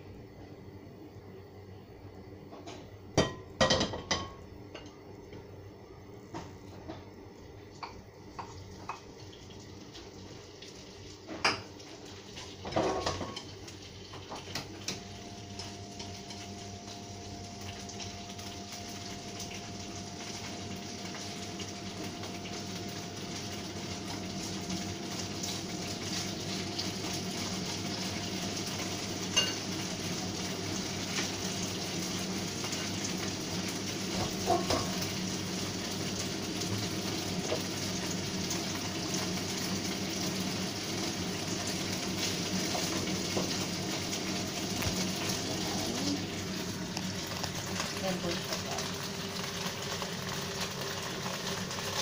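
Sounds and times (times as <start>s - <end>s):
pork sizzling in hot oil: 3.0s - 5.4s, 6.0s - 52.0s.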